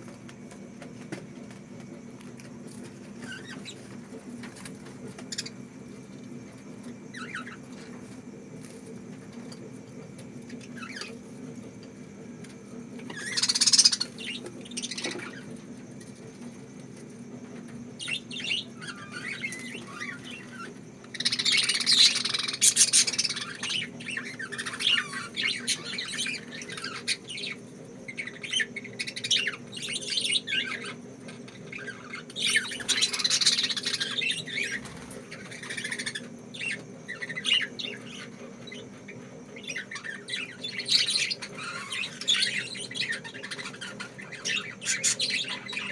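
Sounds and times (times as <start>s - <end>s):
steady low hum: 0.0s - 45.9s
lovebirds chirping and squawking: 2.4s - 45.9s.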